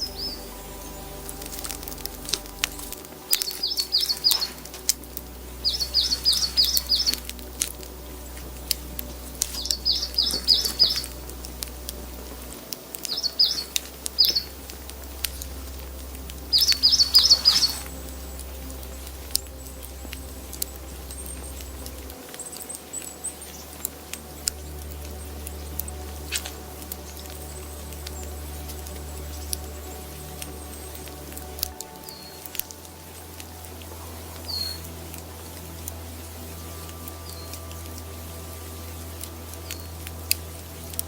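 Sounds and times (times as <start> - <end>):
sharp ticks and pattering: 0.0 - 41.0
songbird singing: 0.0 - 41.0.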